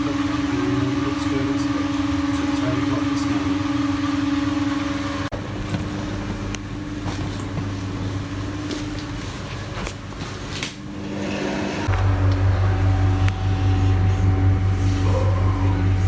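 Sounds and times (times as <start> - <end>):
lower hum: 0.0 - 16.0
mechanical hum with held tone: 0.0 - 16.0.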